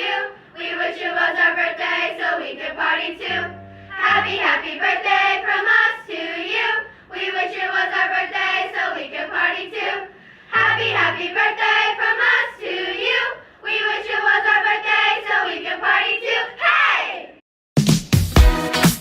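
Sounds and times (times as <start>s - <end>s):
children singing together: 0.0s - 17.2s.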